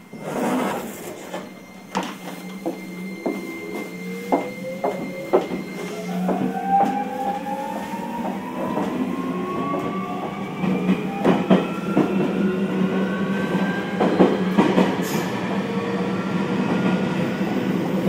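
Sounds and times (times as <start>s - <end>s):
train inverter and motors whining: 0.0s - 18.0s.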